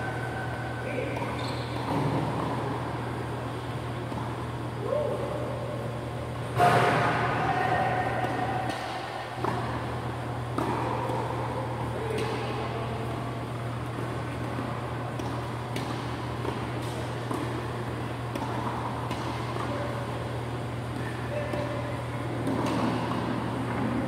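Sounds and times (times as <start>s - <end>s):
ventilation fans humming: 0.0s - 24.0s.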